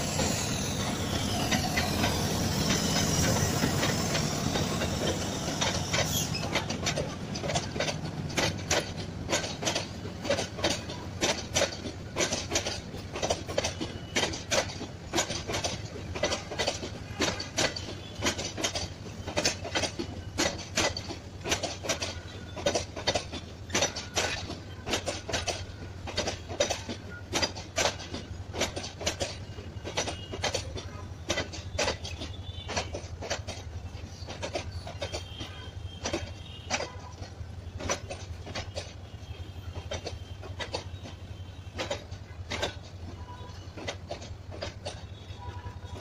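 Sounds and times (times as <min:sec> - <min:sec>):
train wheels clacking over rail joints: 0:00.0 - 0:46.0.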